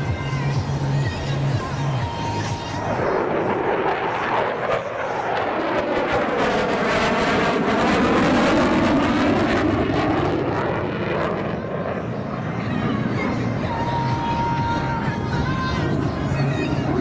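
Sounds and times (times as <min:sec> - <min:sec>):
jet fighter flying past: 0:02.1 - 0:17.0.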